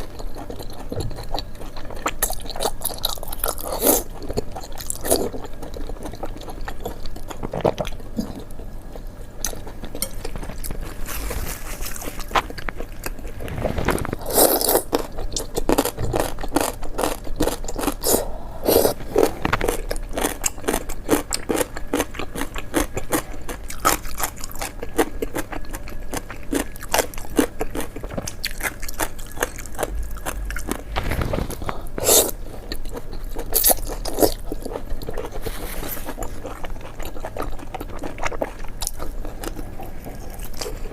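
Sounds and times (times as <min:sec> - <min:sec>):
person chewing and biting food: 0:00.0 - 0:40.9.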